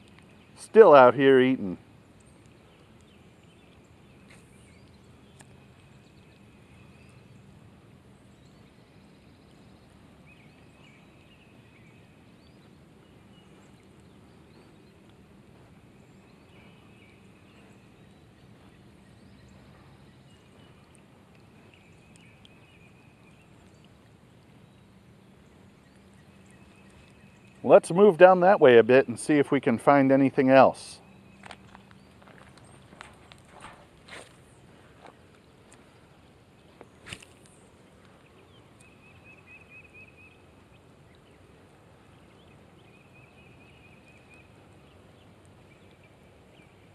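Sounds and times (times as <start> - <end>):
light rain falling on a pond: 0.0 - 46.9.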